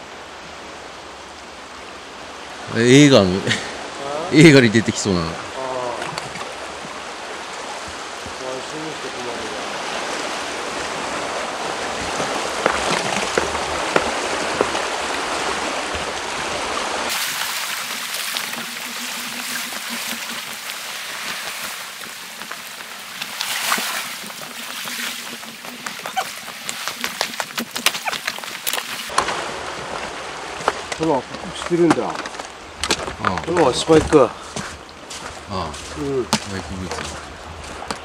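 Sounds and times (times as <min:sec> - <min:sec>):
seawater splashing over rocks: 0:02.5 - 0:38.0.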